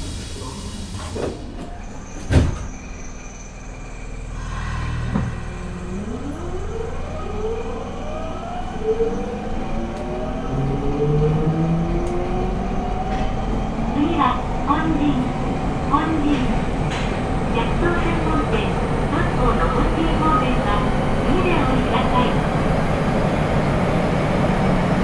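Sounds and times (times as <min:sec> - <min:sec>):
low train running rumble: 0:00.0 - 0:25.0
train inverter whining: 0:01.2 - 0:25.0.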